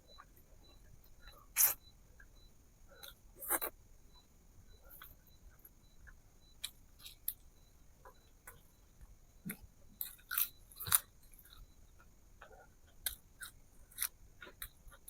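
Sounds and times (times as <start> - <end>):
person chewing food: 0.1 - 2.3, 2.9 - 3.8, 4.8 - 15.0.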